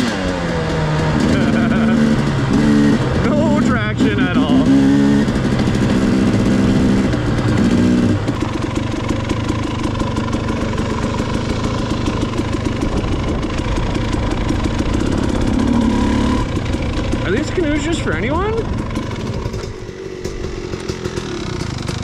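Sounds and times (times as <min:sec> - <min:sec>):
two-stroke dirt bike engine: 0:00.0 - 0:22.0.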